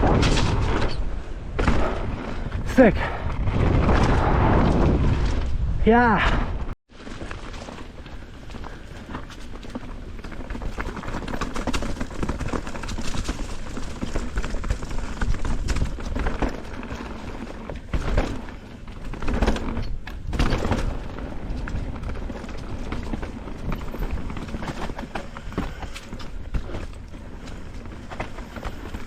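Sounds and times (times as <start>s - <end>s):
bike rattling: 0.0s - 5.7s, 6.9s - 29.0s
tyres over dirt and rocks: 0.0s - 29.0s.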